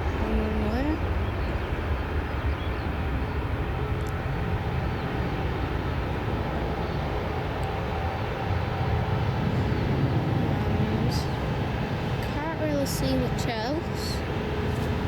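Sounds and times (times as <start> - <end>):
distant jet engines rumbling: 0.0 - 15.0
faint jet engine whine: 0.0 - 15.0.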